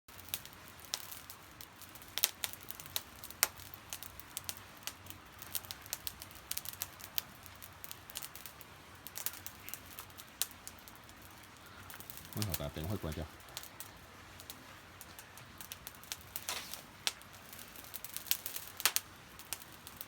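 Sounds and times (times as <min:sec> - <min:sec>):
fire crackling and popping: 0:00.1 - 0:20.0.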